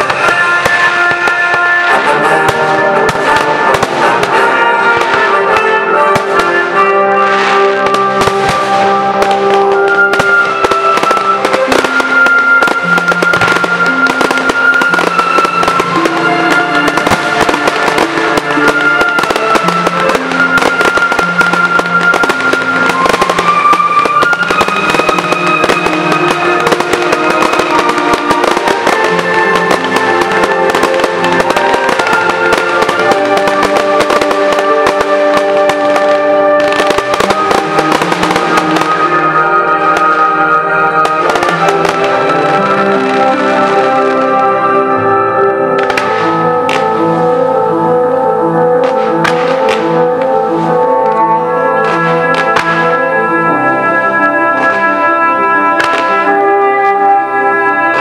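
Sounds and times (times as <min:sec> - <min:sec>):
fireworks bursting and crackling: 0:00.0 - 0:58.0
orchestral music with held notes: 0:00.0 - 0:58.0.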